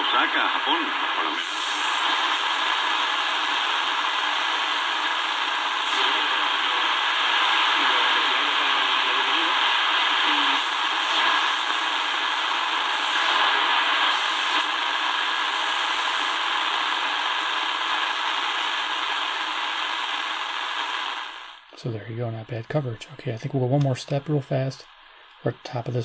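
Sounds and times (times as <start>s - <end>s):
shortwave radio static: 0.0s - 26.0s.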